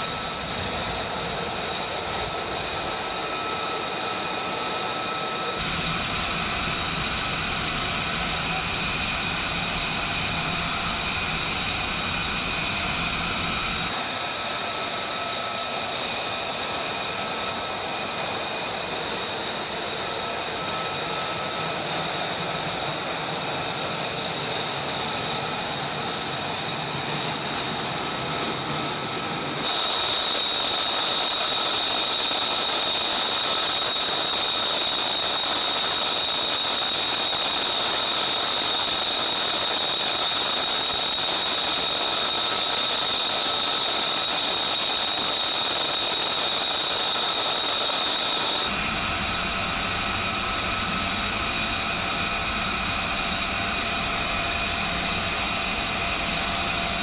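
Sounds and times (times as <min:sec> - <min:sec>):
high-pitched turbine whine: 0:00.0 - 0:57.0.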